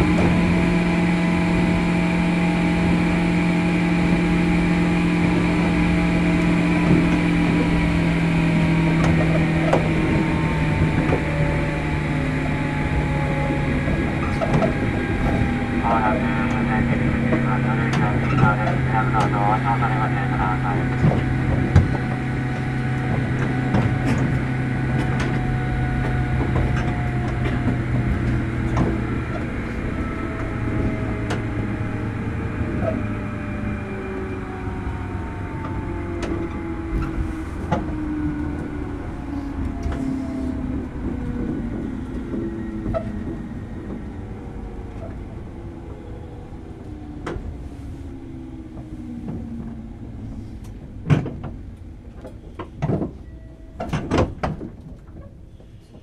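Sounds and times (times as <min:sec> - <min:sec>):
train motor whine: 0:00.0 - 0:56.0
rail joint clicks: 0:05.5 - 0:33.2, 0:35.6 - 0:56.0.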